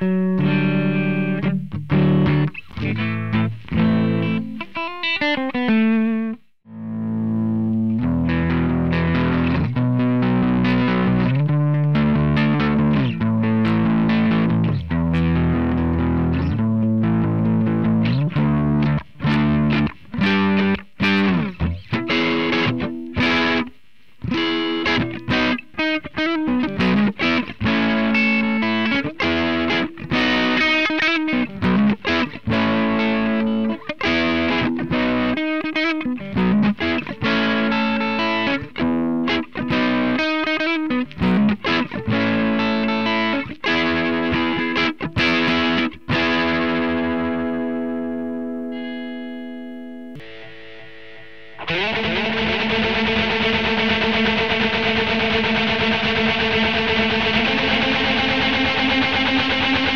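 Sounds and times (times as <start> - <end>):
distorted electric guitar riffs: 0.0 - 59.9.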